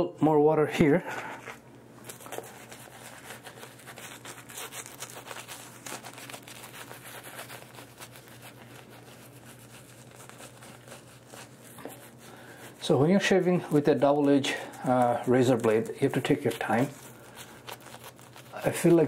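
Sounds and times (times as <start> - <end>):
shaving brush swishing foam: 2.2 - 19.0.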